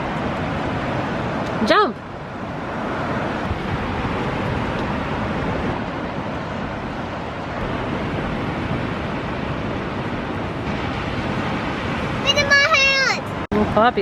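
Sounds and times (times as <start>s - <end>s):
waves breaking on shore: 0.0s - 14.0s
wind buffeting microphone: 0.0s - 14.0s.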